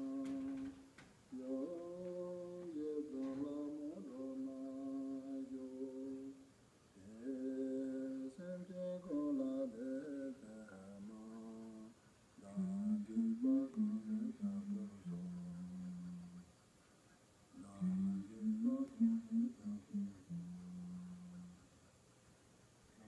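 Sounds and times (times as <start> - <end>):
person chanting melodically: 0.0 - 16.6, 17.5 - 21.7.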